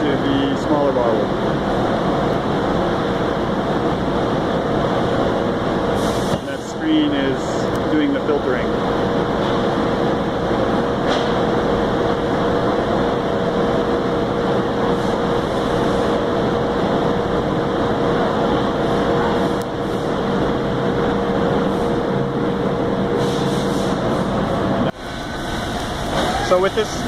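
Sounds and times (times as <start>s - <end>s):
machinery drone with hum: 0.0s - 27.0s.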